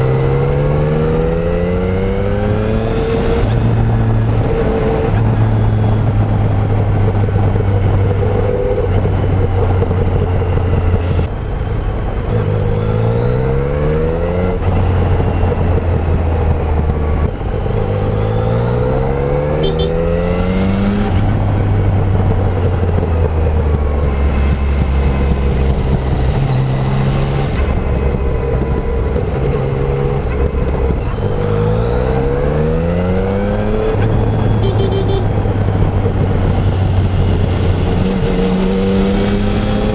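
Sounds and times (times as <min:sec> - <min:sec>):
motorcycle engine revving: 0:00.0 - 0:11.4, 0:12.0 - 0:39.9.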